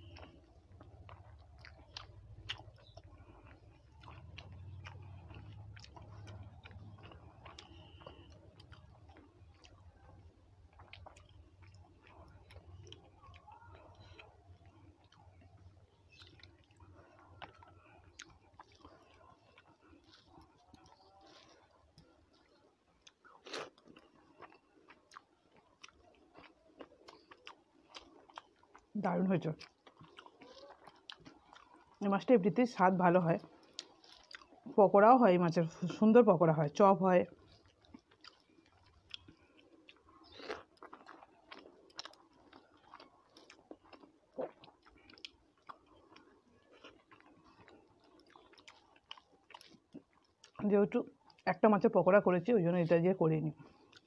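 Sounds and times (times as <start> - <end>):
person chewing food: 0.0 - 34.8, 37.2 - 51.5, 53.6 - 54.0
food crunch: 0.0 - 35.9, 37.2 - 51.5, 53.5 - 54.0.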